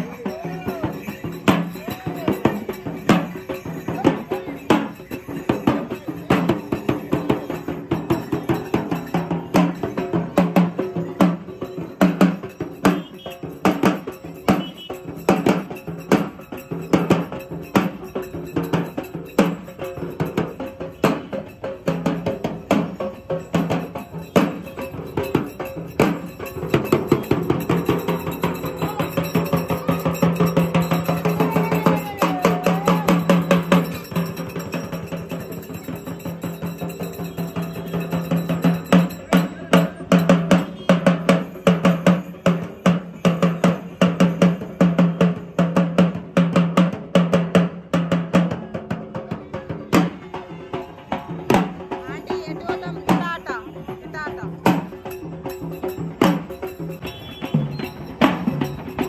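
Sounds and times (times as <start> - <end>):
fast steady drum strikes: 0.0 - 59.0.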